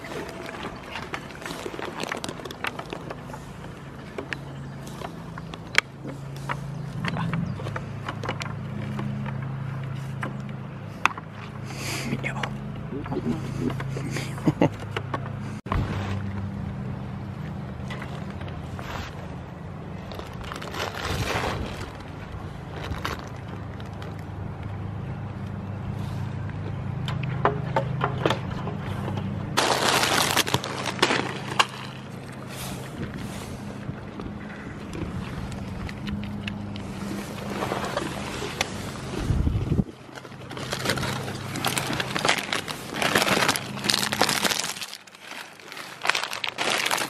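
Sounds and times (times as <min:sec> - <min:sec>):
goats crunching crackers: 0:00.0 - 0:16.5, 0:17.3 - 0:47.0
engine hum: 0:00.0 - 0:47.0.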